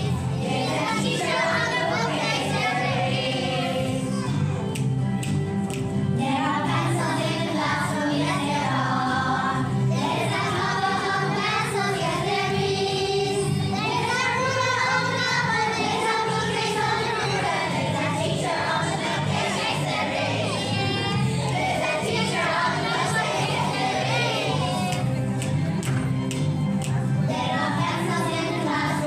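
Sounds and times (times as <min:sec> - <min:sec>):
children singing together: 0:00.0 - 0:04.2, 0:06.2 - 0:25.0, 0:27.3 - 0:29.0
backing music with bass line: 0:00.0 - 0:29.0.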